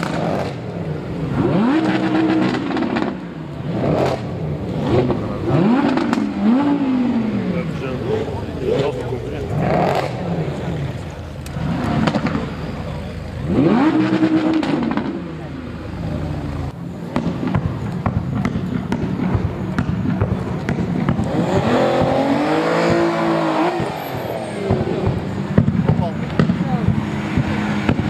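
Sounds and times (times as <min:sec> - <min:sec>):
car engine revving: 0:00.0 - 0:28.0
exhaust pops: 0:00.0 - 0:28.0.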